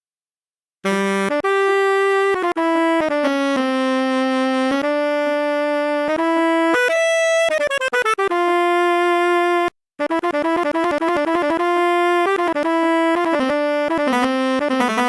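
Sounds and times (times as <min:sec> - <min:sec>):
sampled brass melody: 0:00.8 - 0:15.0.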